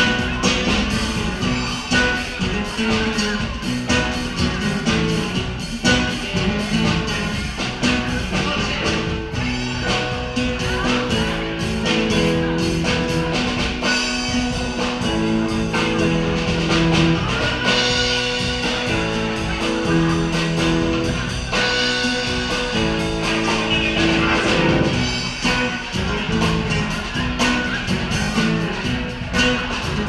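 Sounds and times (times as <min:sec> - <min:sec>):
acoustic guitar: 0:00.0 - 0:30.0
drum kit beat: 0:00.0 - 0:30.0
keyboard chords: 0:00.0 - 0:30.0.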